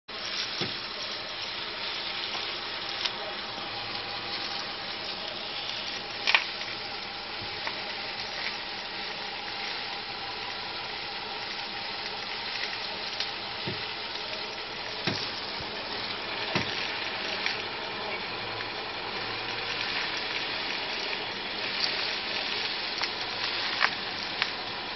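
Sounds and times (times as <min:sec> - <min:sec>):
steady rushing noise: 0:00.1 - 0:24.9.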